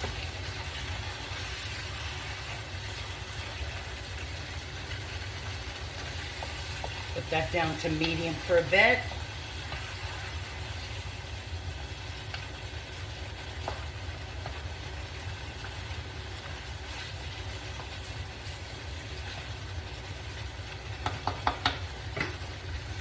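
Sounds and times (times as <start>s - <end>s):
food cooking in a pan: 0.0s - 23.0s.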